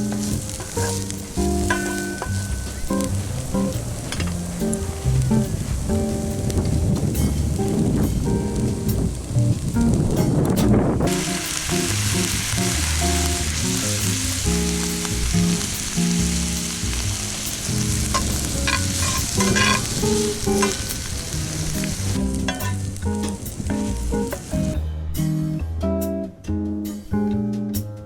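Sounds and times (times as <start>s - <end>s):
background music: 0.0s - 9.0s, 11.1s - 28.0s
food sizzling in a pan: 0.0s - 10.3s, 11.0s - 24.8s.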